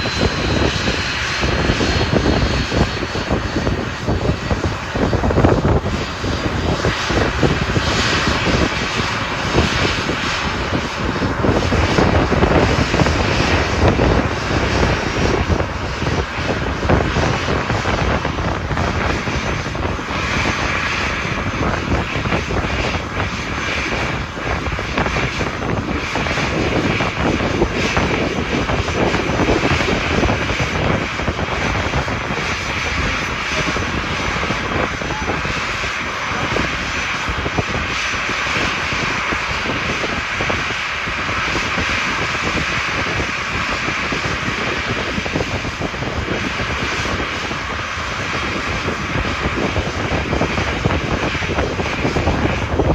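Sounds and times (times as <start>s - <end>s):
jet engines running with high whine: 0.0s - 52.9s.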